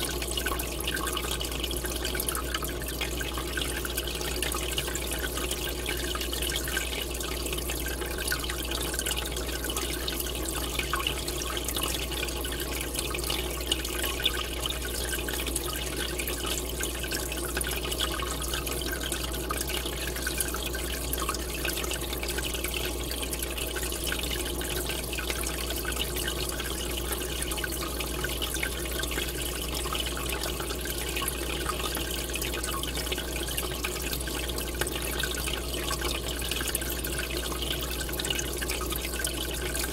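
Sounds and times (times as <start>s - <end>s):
aquarium bubbles bubbling: 0.0s - 39.9s.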